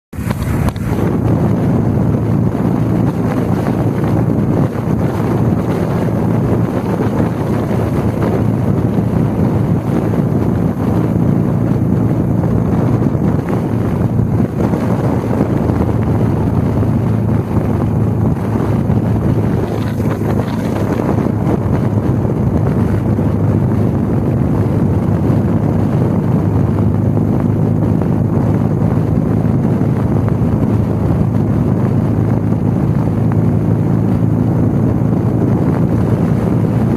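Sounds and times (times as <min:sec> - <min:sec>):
wind noise on microphone: 0:00.1 - 0:36.9
motorcycle engine running: 0:00.2 - 0:36.9.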